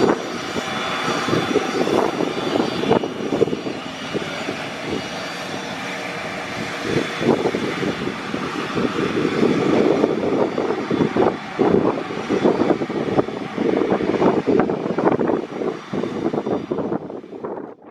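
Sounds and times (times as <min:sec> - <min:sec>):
jet engines running: 0:00.0 - 0:17.8.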